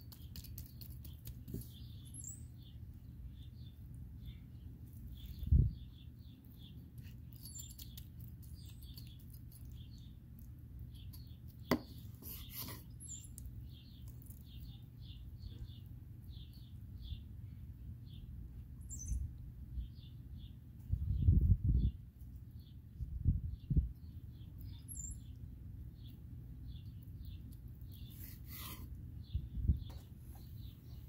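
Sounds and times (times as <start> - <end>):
small bird chirping: 0.0 - 31.0.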